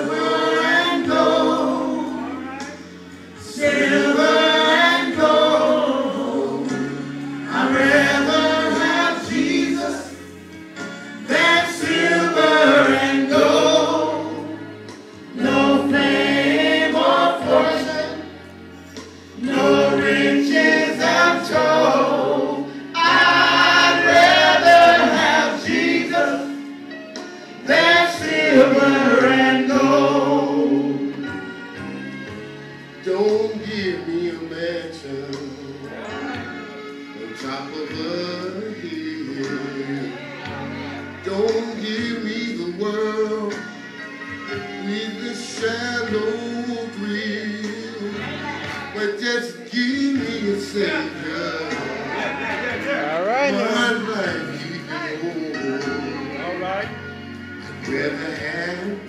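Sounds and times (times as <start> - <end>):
vocal group singing gospel: 0.0 - 31.8, 32.8 - 59.0.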